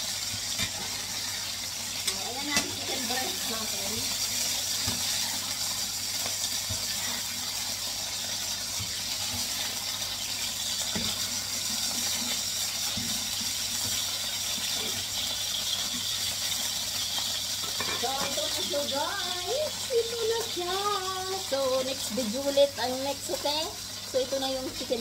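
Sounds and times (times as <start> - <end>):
oil sizzling in a frying pan: 0.0 - 25.0.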